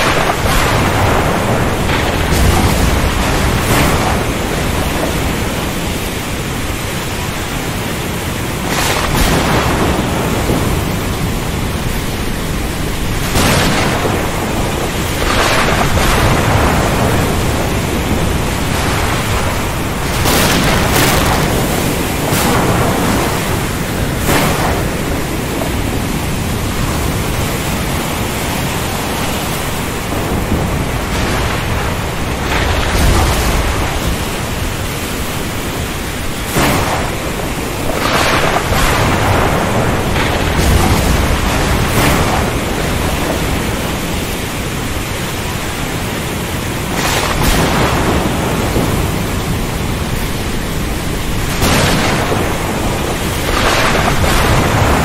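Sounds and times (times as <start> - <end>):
deep thunder rumble: 0.0 - 55.0
heavy rain: 0.0 - 55.0
surf: 0.0 - 55.0
thunder cracks: 0.0 - 55.0.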